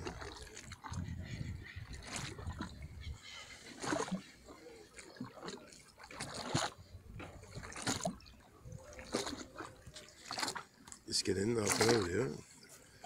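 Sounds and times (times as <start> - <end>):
small waves slapping under pier: 0.0 - 13.0.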